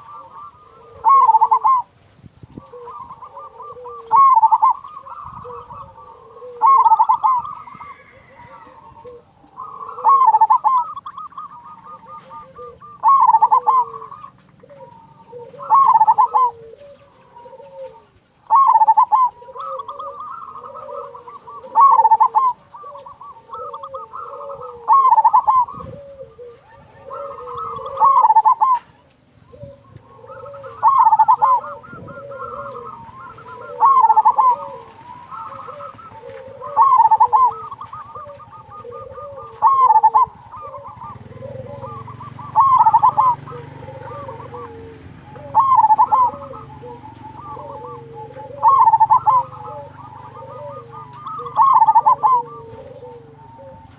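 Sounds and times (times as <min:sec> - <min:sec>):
dove bubbling coo phrase: 0:00.0 - 0:53.9
quiet dove cooing: 0:00.0 - 0:53.9.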